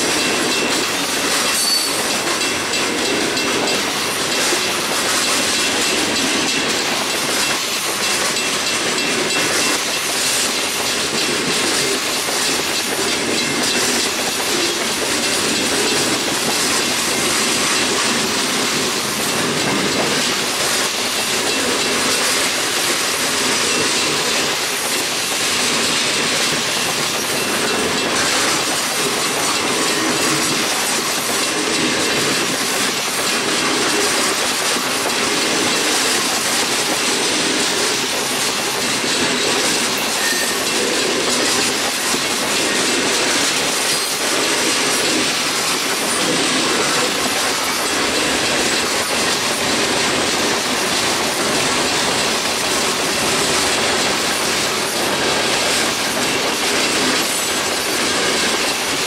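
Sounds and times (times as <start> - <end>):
train wheels on track: 0.0 - 59.0.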